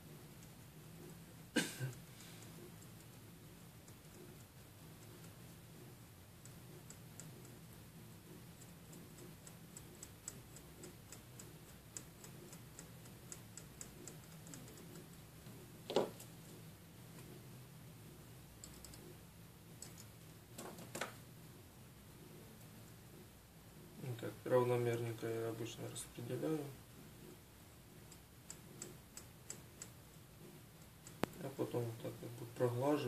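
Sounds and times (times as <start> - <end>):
low steady hum: 0.0 - 33.0
soldering tools ticking: 0.3 - 17.4, 18.5 - 21.1, 24.1 - 33.0.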